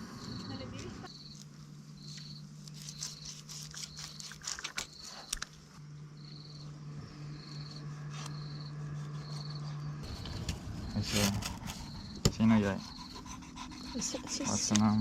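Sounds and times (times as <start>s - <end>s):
insect chirping: 0.0s - 15.0s
steady low hum: 0.0s - 15.0s.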